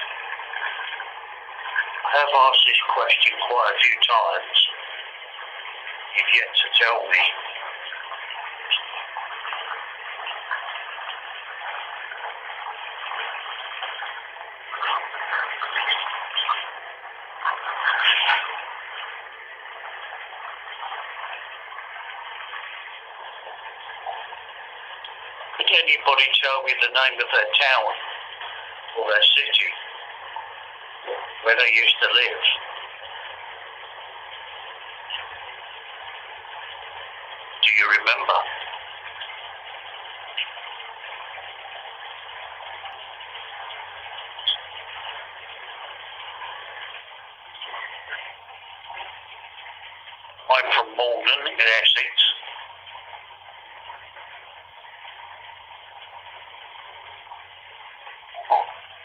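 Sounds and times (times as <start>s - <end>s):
bathwater running from tap: 0.0s - 59.0s.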